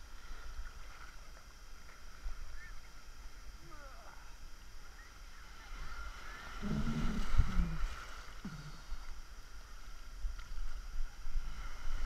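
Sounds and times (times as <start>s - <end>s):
sea waves sloshing: 0.0s - 12.0s
water splashing and gurgling: 0.0s - 12.0s.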